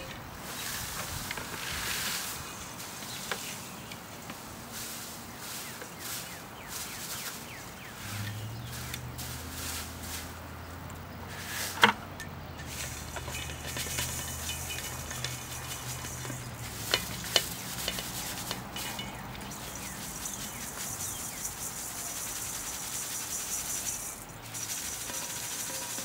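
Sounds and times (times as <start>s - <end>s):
seed pods rustling in colander: 0.0s - 26.0s.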